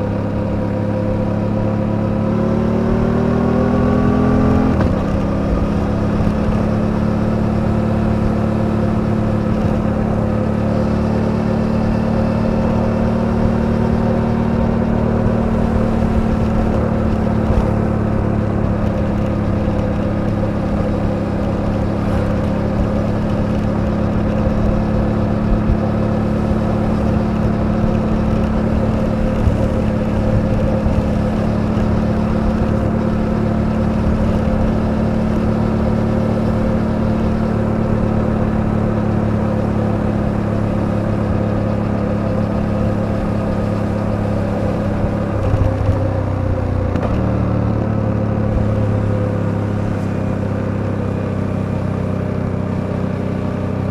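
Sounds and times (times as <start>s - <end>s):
motorcycle engine cruising: 0.0s - 53.9s.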